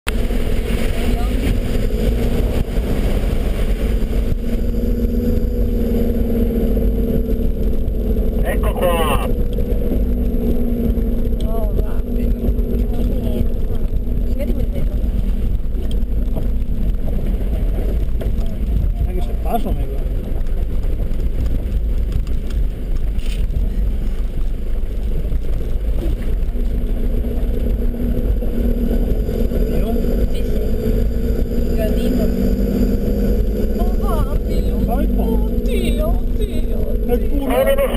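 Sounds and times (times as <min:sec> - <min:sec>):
low road rumble: 0:00.0 - 0:37.9
engine drone inside vehicle cab: 0:00.1 - 0:37.9.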